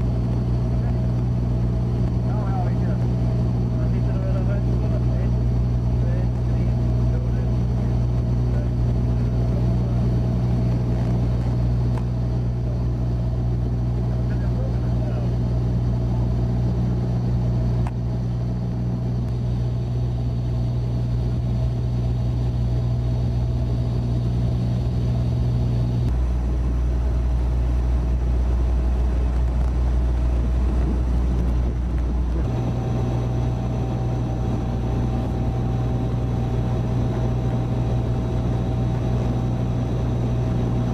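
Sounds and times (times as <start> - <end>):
engine drone: 0.0 - 40.9.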